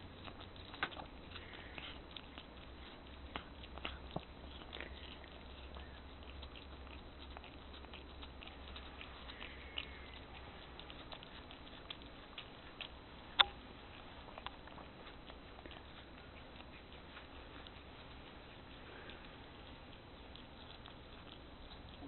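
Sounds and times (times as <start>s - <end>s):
cat licking and chewing: 0.0s - 22.0s.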